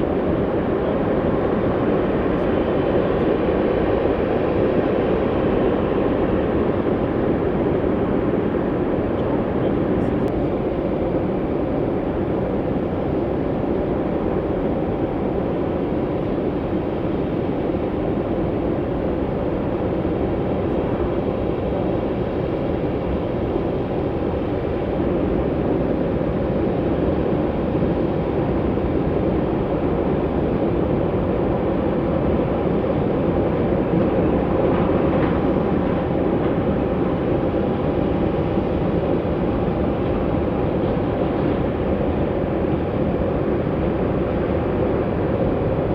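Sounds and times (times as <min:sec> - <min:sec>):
faint engine whine: 0:00.0 - 0:45.9
jet engines rumbling: 0:00.0 - 0:45.9.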